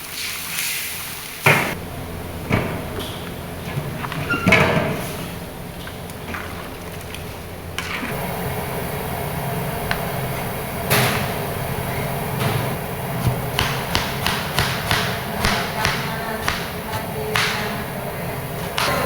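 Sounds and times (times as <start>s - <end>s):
steady low hum: 1.7s - 19.0s.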